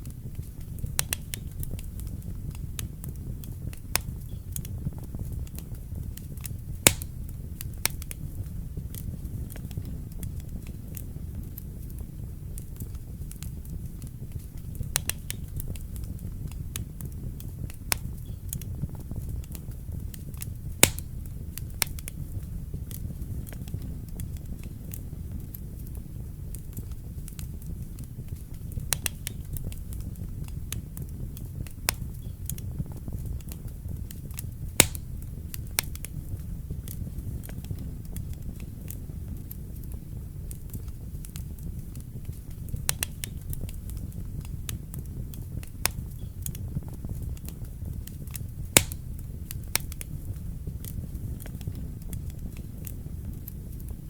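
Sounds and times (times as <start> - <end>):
fire crackling and popping: 0.0 - 54.0
wood fire flames rumbling: 0.0 - 54.0.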